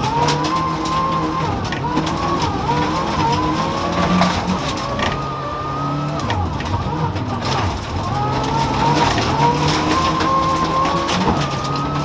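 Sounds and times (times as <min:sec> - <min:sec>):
car engine revving high: 0:00.0 - 0:12.0
tyres on gravel: 0:00.0 - 0:12.0.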